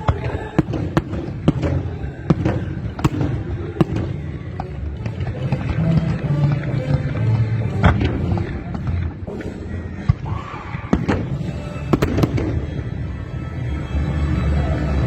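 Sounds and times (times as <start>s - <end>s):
fireworks bangs: 0.0s - 13.2s.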